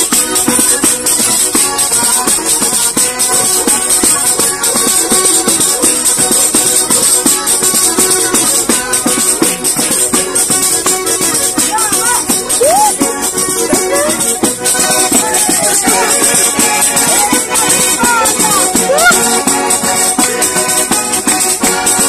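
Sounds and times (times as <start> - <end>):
button accordion playing a tune: 0.0 - 22.0
tambourines shaken and struck: 0.0 - 22.0.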